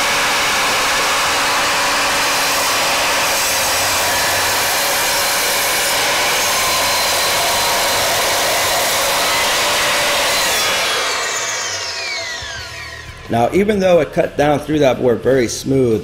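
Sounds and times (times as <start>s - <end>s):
miter saw cutting wood: 0.0s - 14.7s.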